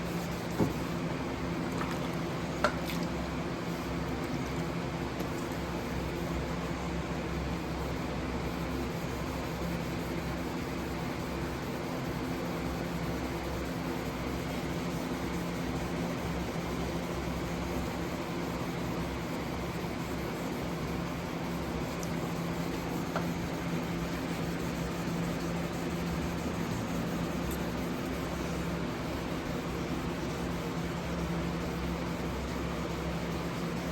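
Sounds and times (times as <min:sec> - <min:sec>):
machine hum with hiss: 0:00.0 - 0:33.9.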